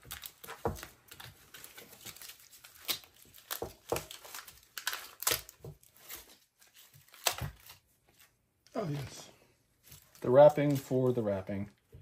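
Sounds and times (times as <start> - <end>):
plastic wrapping crinkling and tearing: 0.0 - 9.2, 9.8 - 11.7.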